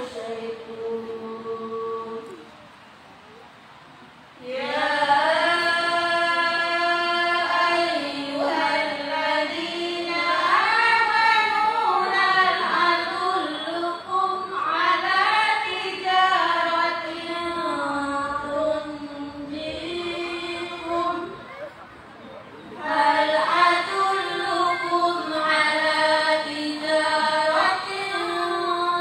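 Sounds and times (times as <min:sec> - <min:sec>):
person chanting melodically: 0:04.4 - 0:21.7, 0:22.8 - 0:29.0.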